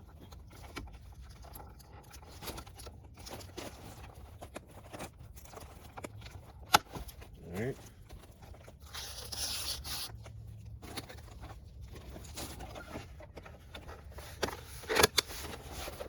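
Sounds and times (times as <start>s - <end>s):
plastic parts rubbing and scraping: 0.0s - 16.0s.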